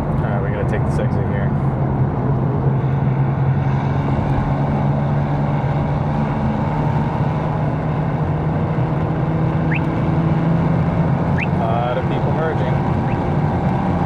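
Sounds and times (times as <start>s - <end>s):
car engine cruising: 0.0s - 14.0s
road and tyre noise: 0.0s - 14.0s.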